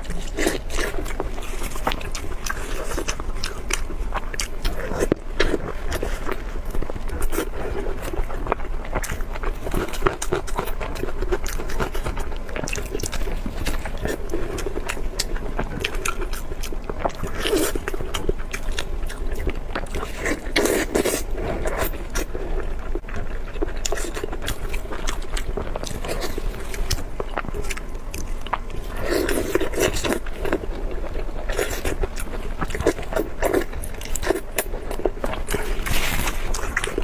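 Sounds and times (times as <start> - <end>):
chewing and mouth sounds: 0.0 - 37.0
steady low hum: 0.0 - 37.0.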